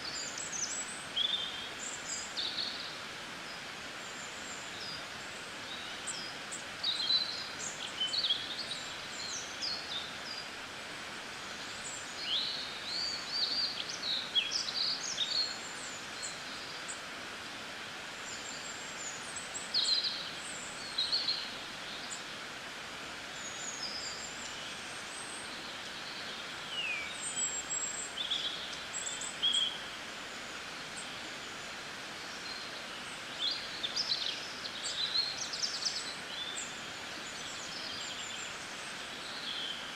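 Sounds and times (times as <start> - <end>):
small birds chirping: 0.0 - 17.1, 18.1 - 22.4, 23.2 - 39.9
steady background hiss: 0.0 - 39.9.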